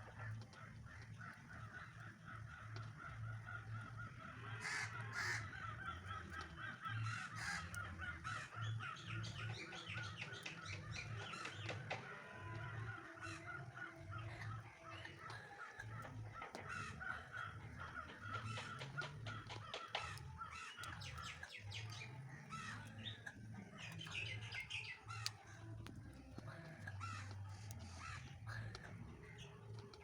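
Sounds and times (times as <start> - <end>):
birds chirping: 0.0 - 30.0
burning logs crackling: 0.0 - 30.0
crows cawing: 0.0 - 30.0.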